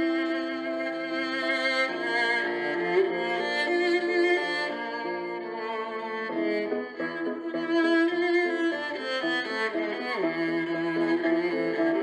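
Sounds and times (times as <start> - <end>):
slow bowed string music: 0.0 - 12.0.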